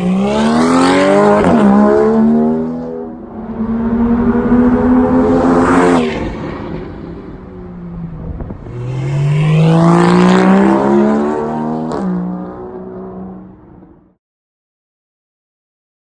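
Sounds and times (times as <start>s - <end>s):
car exhaust accelerating: 0.0s - 13.0s.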